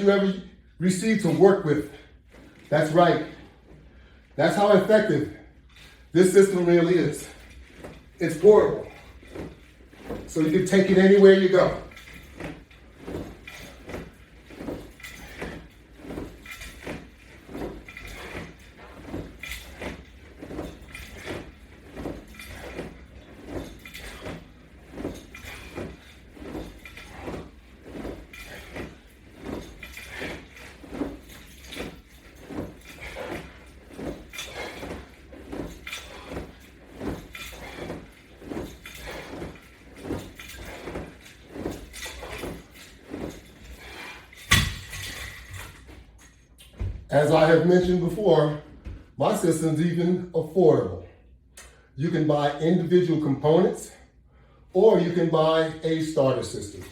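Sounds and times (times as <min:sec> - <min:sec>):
resistance band exercise strokes: 0:00.0 - 0:56.9.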